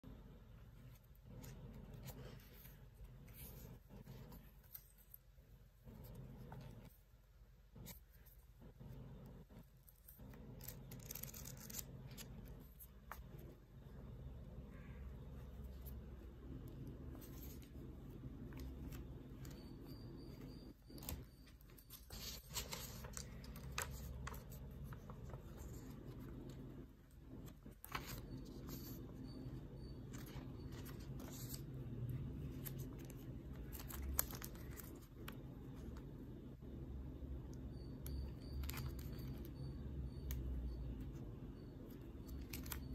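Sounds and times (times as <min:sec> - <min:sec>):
steady low hum: 0:00.0 - 0:42.9
banknotes and plastic rustling: 0:00.2 - 0:42.9.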